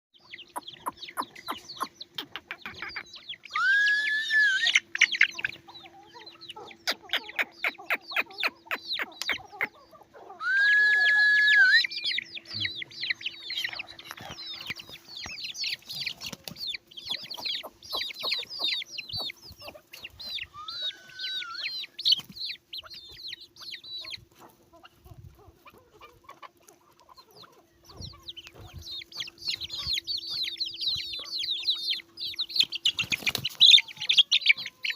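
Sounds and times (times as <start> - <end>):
chicks peeping: 0.2 - 34.9
drawn-out chick calls: 0.2 - 34.9.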